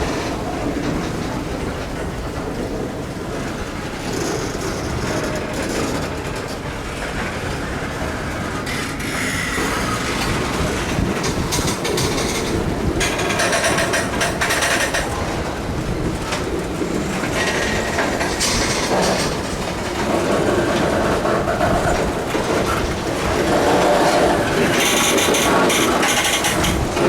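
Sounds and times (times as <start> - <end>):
train wheels clacking on track: 0.0 - 27.0.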